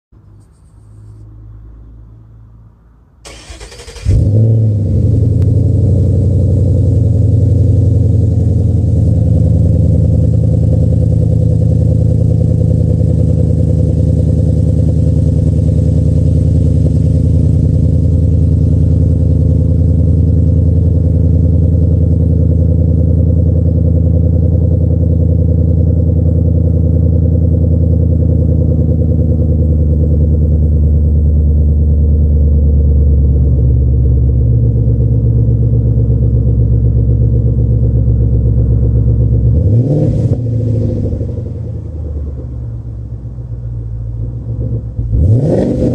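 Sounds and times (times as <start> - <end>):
car engine idling: 3.2 - 45.9.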